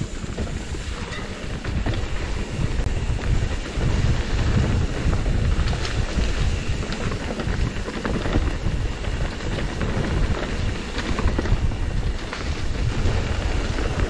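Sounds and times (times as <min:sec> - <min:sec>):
bike clicks and rattles: 0:00.0 - 0:14.0
bike tyre hiss: 0:00.0 - 0:14.0
wind rumble on microphone: 0:00.0 - 0:14.0.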